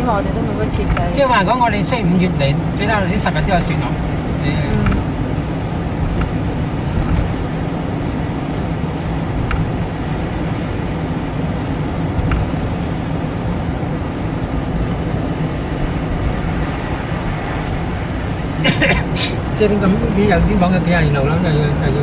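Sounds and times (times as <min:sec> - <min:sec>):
car engine and tyre drone: 0:00.0 - 0:22.0.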